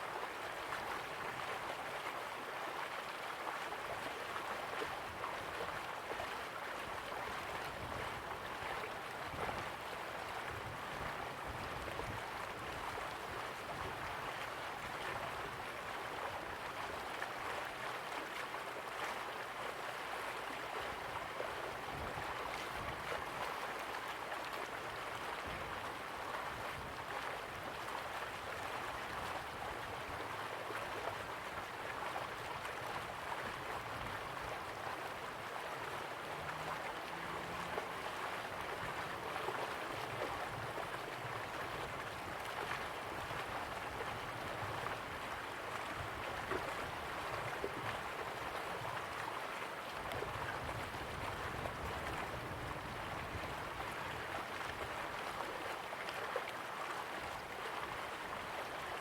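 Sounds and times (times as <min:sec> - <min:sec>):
river water gently rushing: 0:00.0 - 0:59.0.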